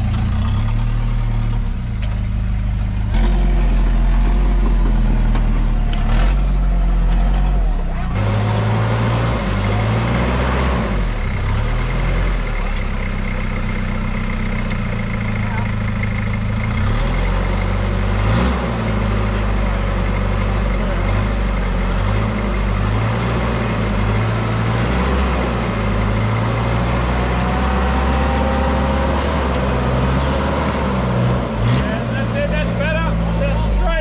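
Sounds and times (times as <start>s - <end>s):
diesel engine running at low revs: 0.0s - 34.0s.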